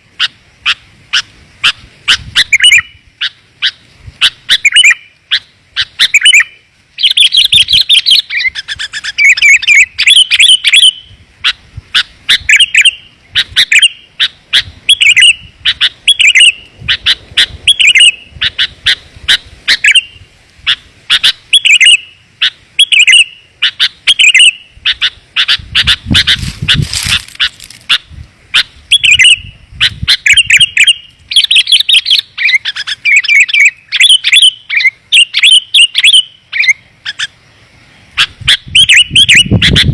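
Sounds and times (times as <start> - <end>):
bulbul calls: 0.0 - 37.4, 38.1 - 39.9
rapid bird chattering: 0.2 - 37.4, 38.2 - 39.9.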